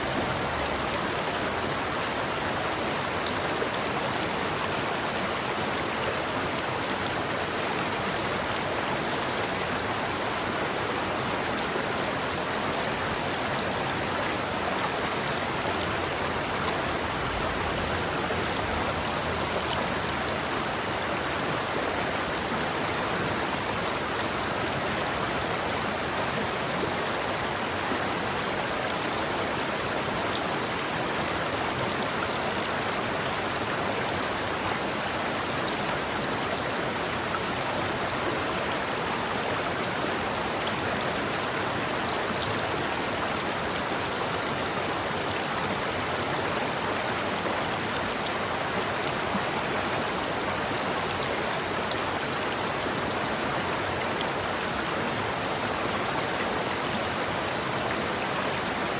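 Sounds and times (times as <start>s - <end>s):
river water flowing: 0.0s - 58.9s.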